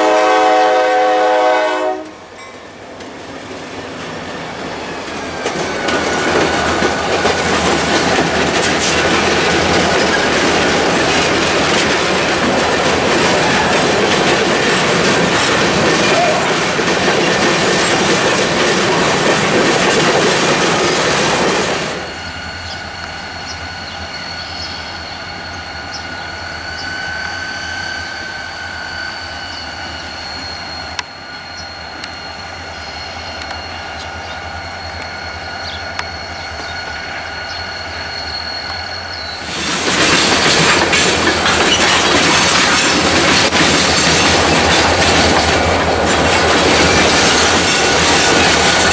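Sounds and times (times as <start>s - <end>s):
distant locomotives moving: 0.0s - 48.9s
train wheels rushing on rail: 0.0s - 48.9s
thin high wheel squeal: 5.2s - 16.7s, 20.5s - 48.9s.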